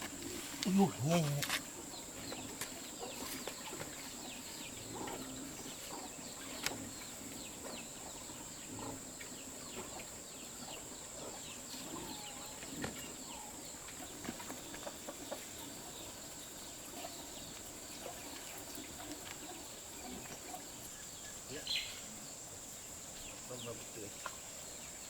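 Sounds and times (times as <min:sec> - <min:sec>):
chickens peeping: 0:00.0 - 0:22.1.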